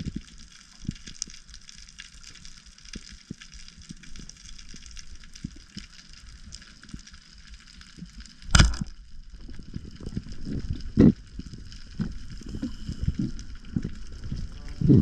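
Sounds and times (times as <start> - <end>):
underwater crackle of fine ticks: 0.0 - 15.0.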